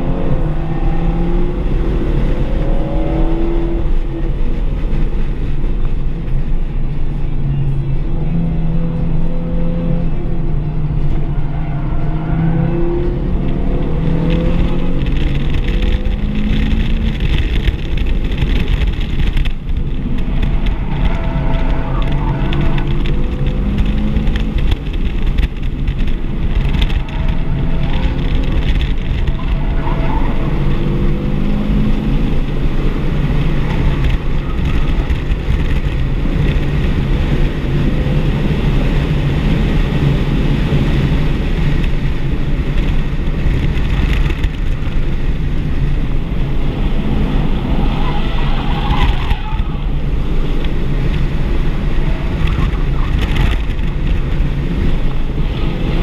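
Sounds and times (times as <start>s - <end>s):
car engine accelerating: 0.0s - 56.0s
road and tyre noise: 0.0s - 56.0s.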